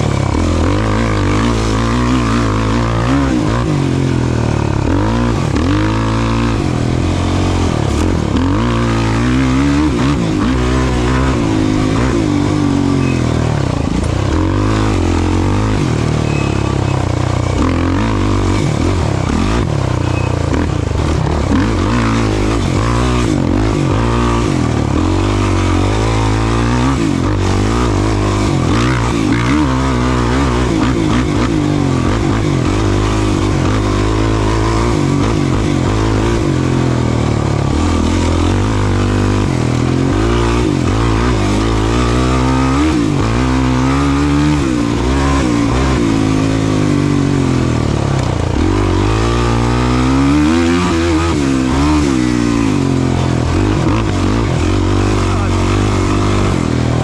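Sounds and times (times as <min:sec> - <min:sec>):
racing vehicle engine revving: 0:00.0 - 0:57.0.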